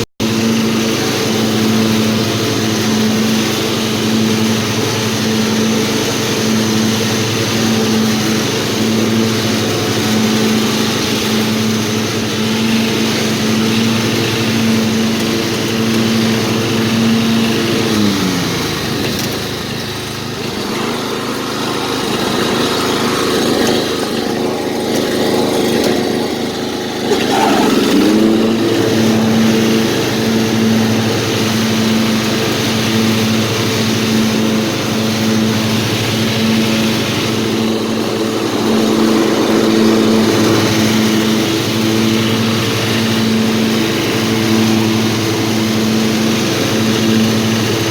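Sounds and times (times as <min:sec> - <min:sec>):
lawnmower engine running: 0:00.0 - 0:47.9.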